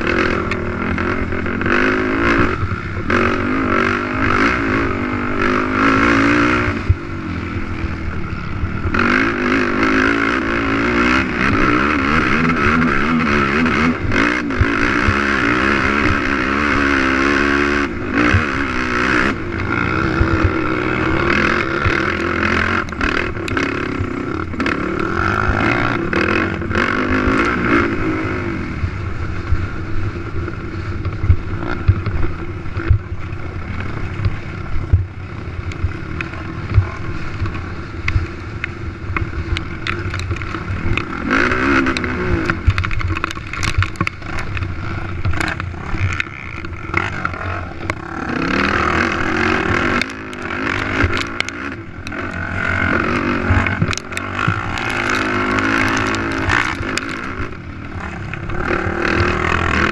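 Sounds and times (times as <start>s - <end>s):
quad engine revving: 0.0s - 38.1s, 39.2s - 59.9s
knocks and clatter over rough ground: 0.0s - 59.9s.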